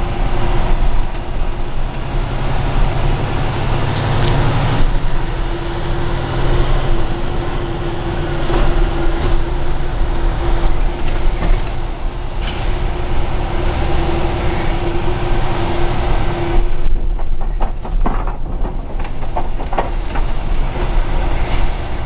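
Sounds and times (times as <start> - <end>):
clunks and rattles: 0.0 - 22.0
truck engine and road rumble: 0.0 - 22.0.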